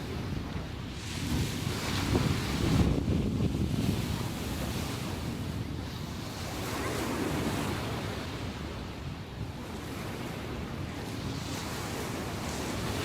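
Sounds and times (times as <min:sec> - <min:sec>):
ocean waves breaking: 0:00.0 - 0:13.0
wind buffeting microphone: 0:00.0 - 0:13.0.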